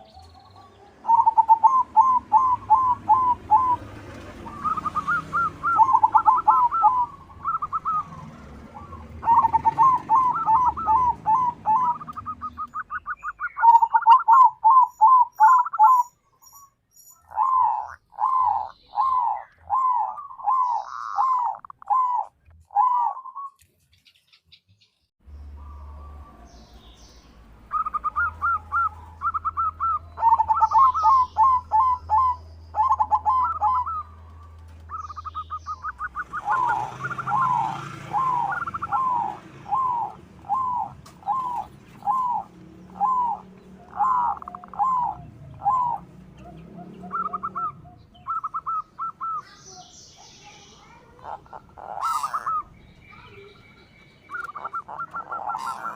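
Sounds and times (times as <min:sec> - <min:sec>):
doves cooing: 0:00.0 - 0:16.1, 0:17.2 - 0:23.6, 0:27.7 - 0:49.6, 0:50.9 - 0:55.9.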